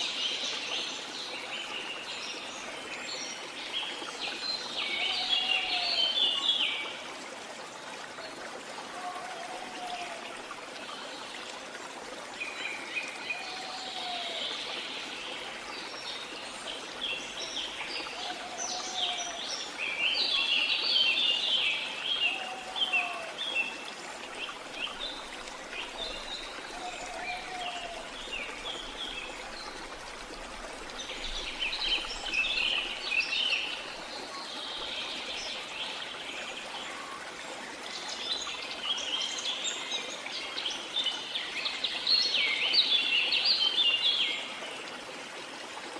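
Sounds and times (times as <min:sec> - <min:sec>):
running stream: 0:00.0 - 0:45.9.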